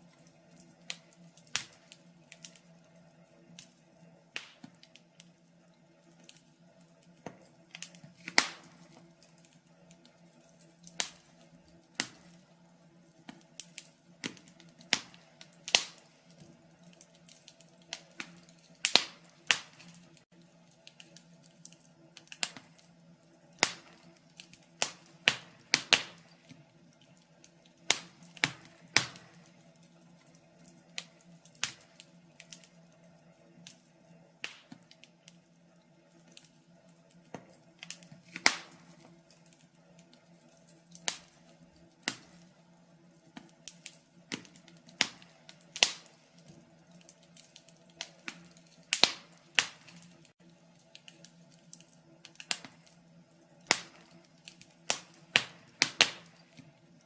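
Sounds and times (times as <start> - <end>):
wood log fire crackling: 0.0 - 57.0.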